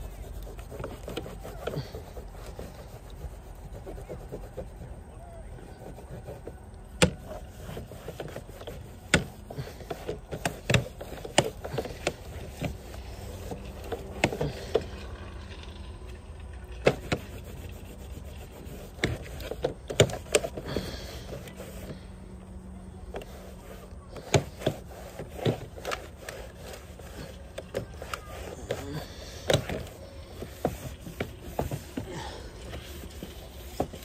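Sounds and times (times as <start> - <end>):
rag scrubbing siding: 0.0 - 15.5, 16.7 - 34.0.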